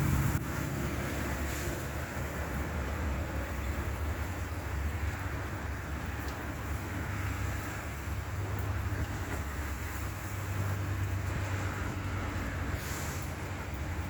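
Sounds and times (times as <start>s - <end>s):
rain hiss: 0.0s - 14.0s
vehicle engine idling: 0.0s - 14.0s
wet road noise: 0.0s - 14.0s.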